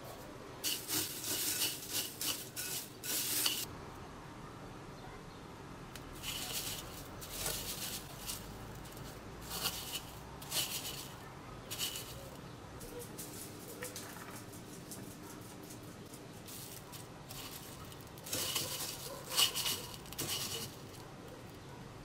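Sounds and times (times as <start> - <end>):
cornflakes crunching: 0.6 - 3.7, 6.0 - 21.1.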